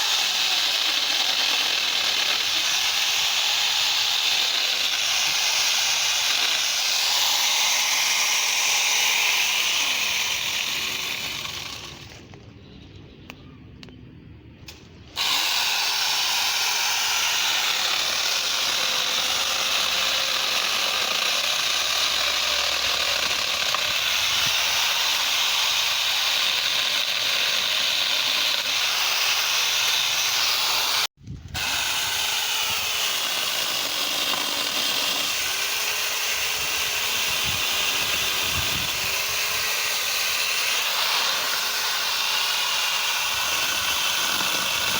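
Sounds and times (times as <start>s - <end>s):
angle grinder running: 0.0s - 12.3s, 15.2s - 44.9s.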